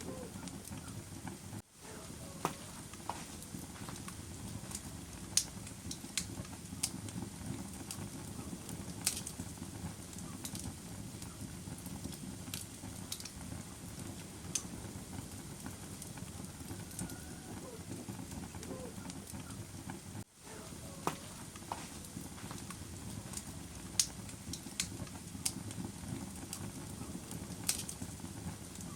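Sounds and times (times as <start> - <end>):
burning wood crackling and popping: 0.0 - 28.9
flames rushing: 0.0 - 28.9.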